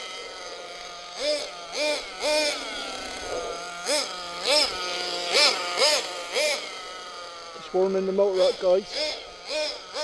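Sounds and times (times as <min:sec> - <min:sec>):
engine throttle blips: 0:00.0 - 0:10.0
model engine idling: 0:00.0 - 0:10.0.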